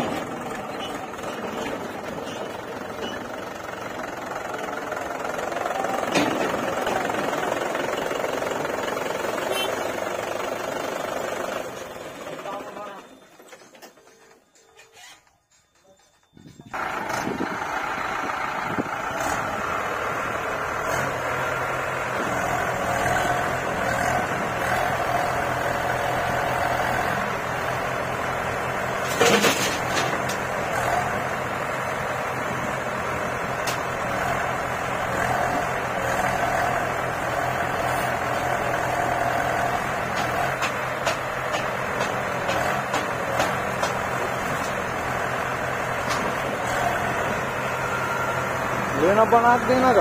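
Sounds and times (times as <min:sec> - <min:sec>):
diesel engines running: 0:00.0 - 0:50.0.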